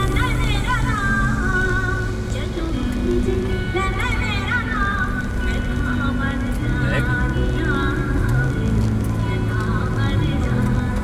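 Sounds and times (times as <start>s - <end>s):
music with wavering melody: 0.0s - 11.0s.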